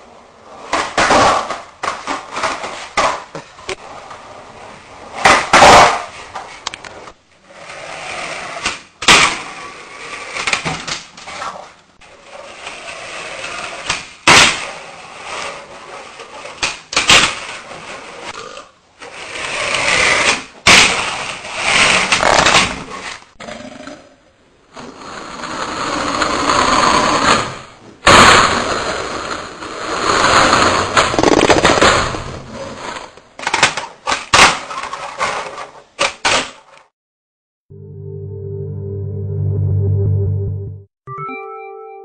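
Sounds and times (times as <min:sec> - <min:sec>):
skateboard wheels rolling: 0:00.0 - 0:23.3, 0:24.7 - 0:36.9.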